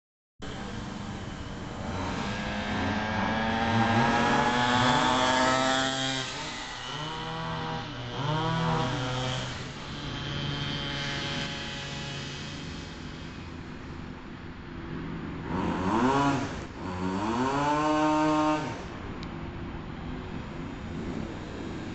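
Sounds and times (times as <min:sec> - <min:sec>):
scooter engine passing at high revs: 0:00.5 - 0:13.9, 0:14.9 - 0:19.2.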